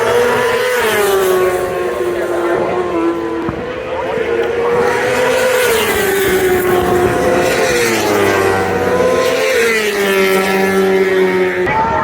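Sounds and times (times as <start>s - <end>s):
motorcycle engines revving high: 0.0s - 12.0s.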